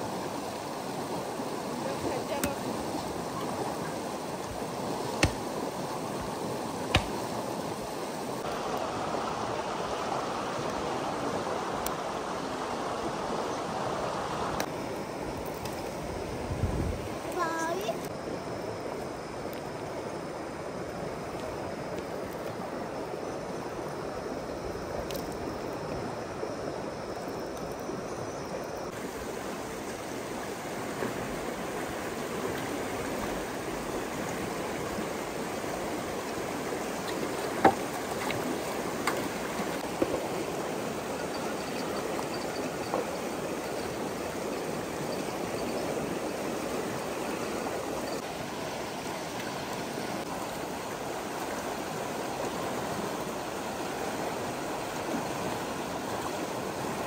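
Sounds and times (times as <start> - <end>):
rushing flowing water: 0.0 - 57.0.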